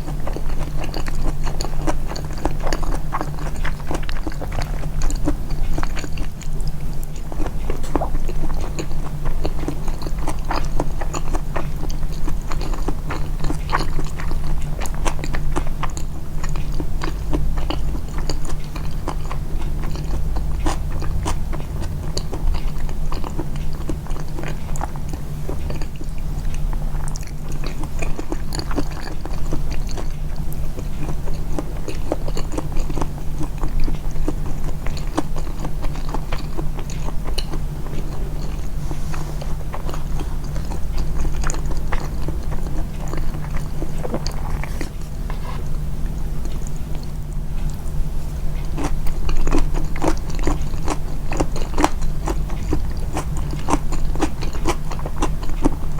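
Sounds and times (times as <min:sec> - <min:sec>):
close-miked chewing and biting: 0:00.0 - 0:55.9
constant low hum: 0:00.0 - 0:55.9.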